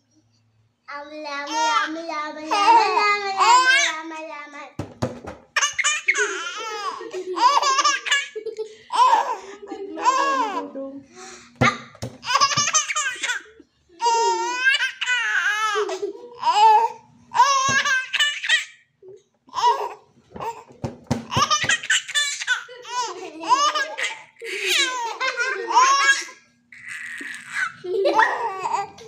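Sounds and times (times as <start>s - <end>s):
baby laughing: 2.5s - 4.1s, 5.5s - 10.7s, 11.6s - 29.0s.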